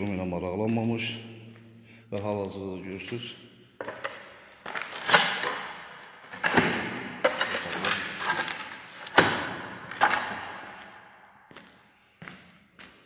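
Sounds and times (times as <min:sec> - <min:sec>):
footsteps on loose ceramic tiles: 0:00.0 - 0:13.0.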